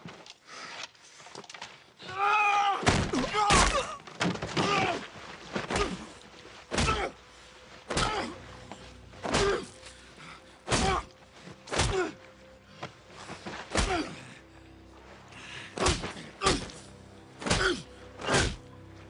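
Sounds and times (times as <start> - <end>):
film score with low held notes: 0.0 - 19.0.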